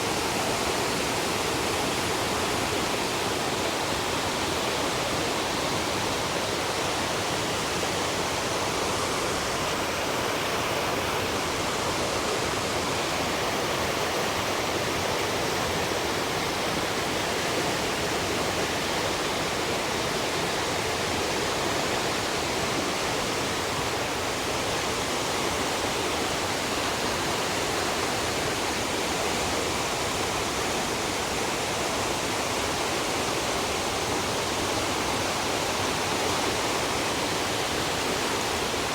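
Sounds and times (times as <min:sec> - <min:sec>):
rushing river and waterfall: 0:00.0 - 0:38.9.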